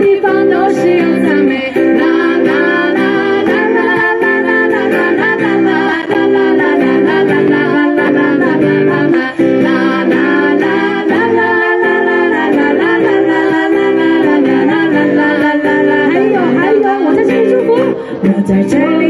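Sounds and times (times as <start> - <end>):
acoustic guitar: 0.0 - 19.0
women singing pop song: 0.0 - 19.0.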